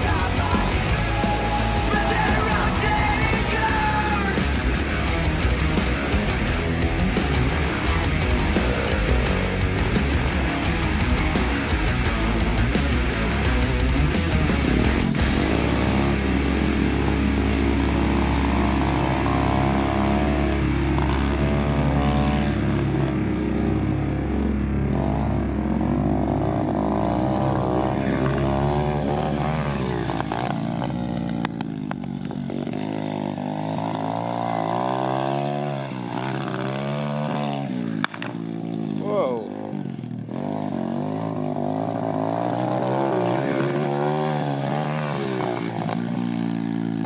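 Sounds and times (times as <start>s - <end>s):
motorbike engine revving: 0.0s - 47.0s.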